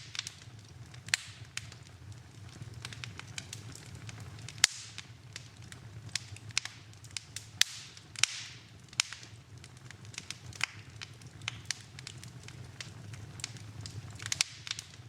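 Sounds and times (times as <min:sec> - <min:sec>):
low steady fire rumble: 0:00.0 - 0:15.0
wood fire crackling and popping: 0:00.0 - 0:15.0.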